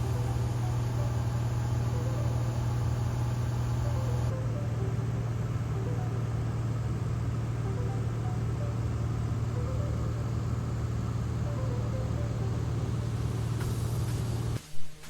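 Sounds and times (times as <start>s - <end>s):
aircraft engine drone: 0.0s - 14.6s.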